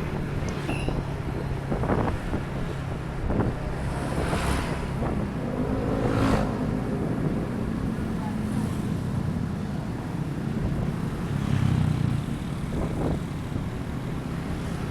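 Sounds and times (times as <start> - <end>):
vehicle engine and road noise: 0.0 - 14.9
wind buffeting microphone: 0.0 - 14.9.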